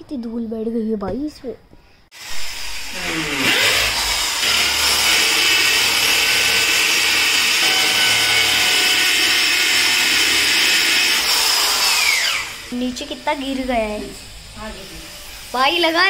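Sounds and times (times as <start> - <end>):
electric drill whining: 2.2 - 16.0.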